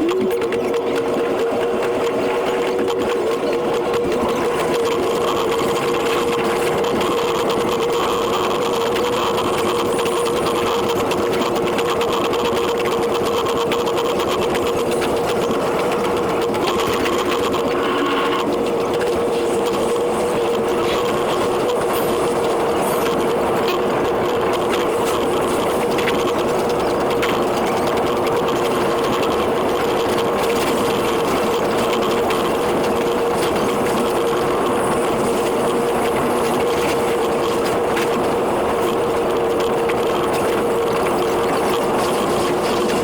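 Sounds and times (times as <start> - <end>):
electric train running: 0.0 - 43.0
ticks from rails: 0.0 - 43.0.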